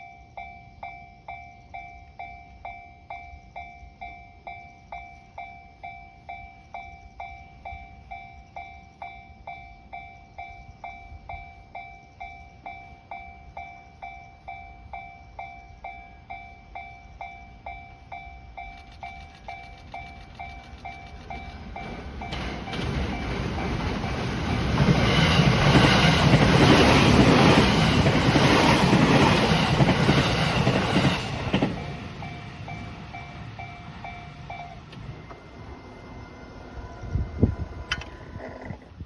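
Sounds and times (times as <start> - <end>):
level crossing warning bell: 0.0 - 37.2
train wheels on rails: 0.8 - 38.4.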